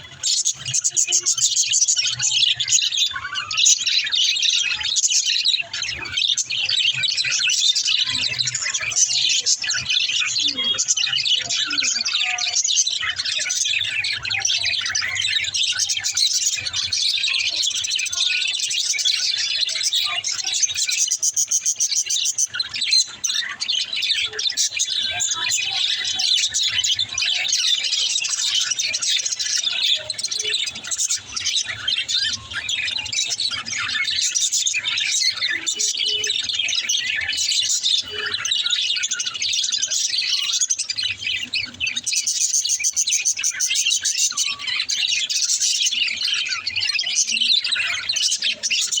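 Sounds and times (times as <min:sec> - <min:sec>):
budgerigars chirping and chattering: 0:00.0 - 0:49.0.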